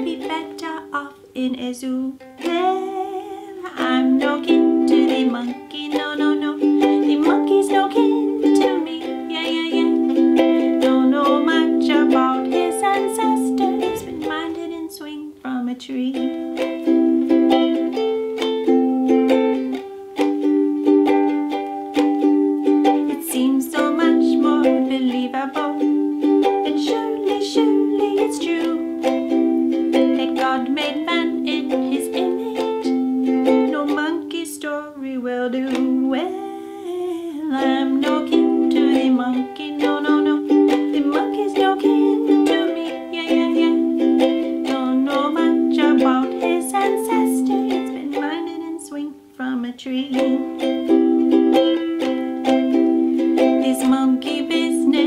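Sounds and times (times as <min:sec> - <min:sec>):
woman singing: 0:00.0 - 0:18.0, 0:22.2 - 0:55.0
ukulele strumming: 0:00.0 - 0:55.0.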